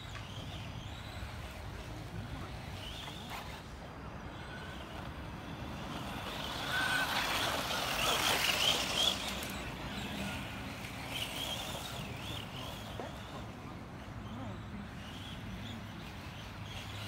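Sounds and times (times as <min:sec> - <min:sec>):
remote control car motor whine: 0:00.0 - 0:17.0
tyres on loose dirt: 0:00.0 - 0:17.0.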